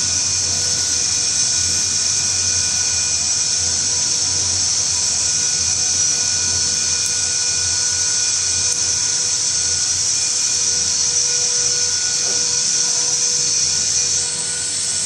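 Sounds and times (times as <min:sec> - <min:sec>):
mixer high-pitched whine: 0:00.0 - 0:15.0.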